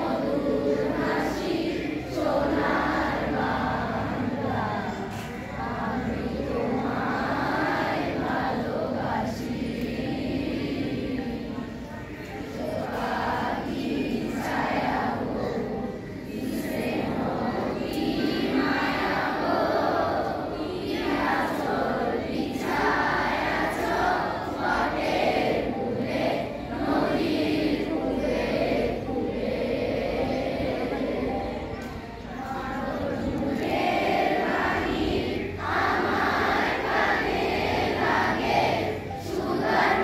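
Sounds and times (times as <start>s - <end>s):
girls chanting in unison: 0.0s - 40.0s.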